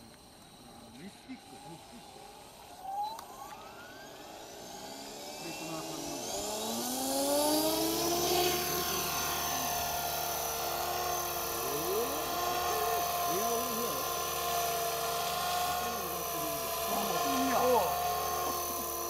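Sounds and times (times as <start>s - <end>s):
model helicopter rotor whine: 0.0s - 19.0s.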